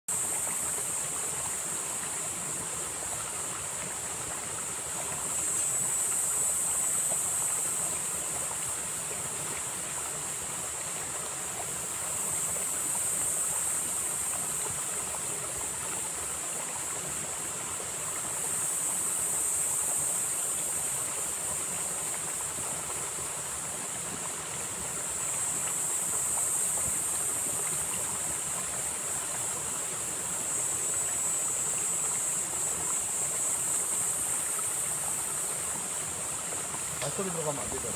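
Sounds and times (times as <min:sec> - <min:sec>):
high hiss: 0:00.1 - 0:37.9
stream water rushing: 0:00.1 - 0:37.9.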